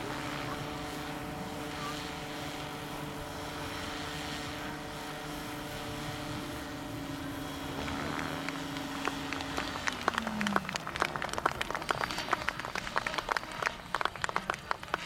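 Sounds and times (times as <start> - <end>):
model helicopter rotor whine: 0.0 - 15.0.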